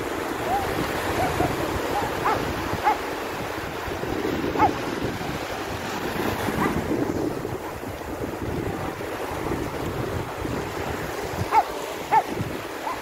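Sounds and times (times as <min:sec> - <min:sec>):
sea surf washing up beach: 0:00.0 - 0:13.0
wind buffeting microphone: 0:00.0 - 0:13.0.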